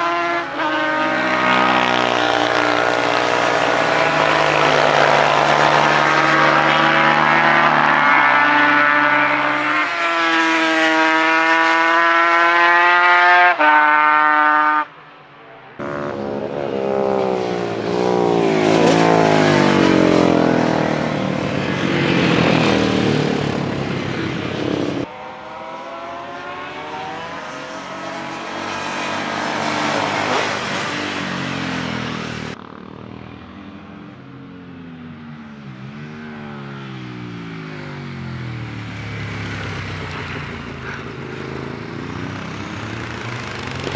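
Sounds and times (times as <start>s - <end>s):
motorcycle passing by: 0.0s - 43.9s
racing motorcycle engines: 0.0s - 43.9s.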